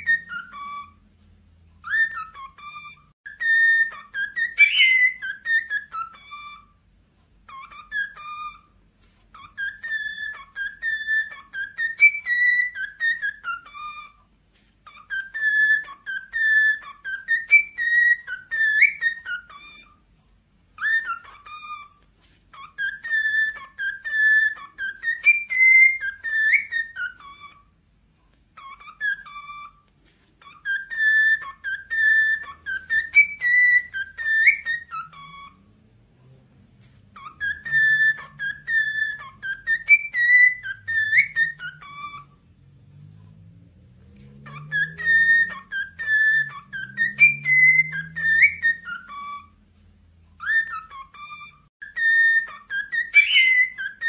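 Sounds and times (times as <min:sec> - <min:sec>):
cockatiel whistling song: 0:00.0 - 0:54.0.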